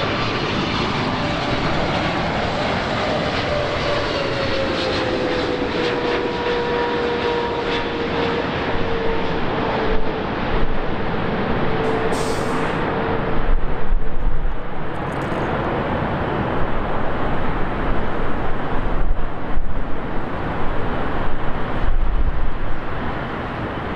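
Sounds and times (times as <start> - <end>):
jet engine rush: 0.0 - 23.9.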